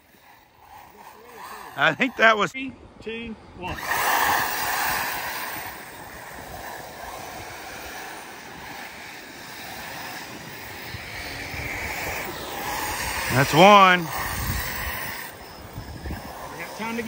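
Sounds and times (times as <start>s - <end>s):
rc buggy motors and tyres on dirt: 0.0s - 2.6s, 3.4s - 17.0s.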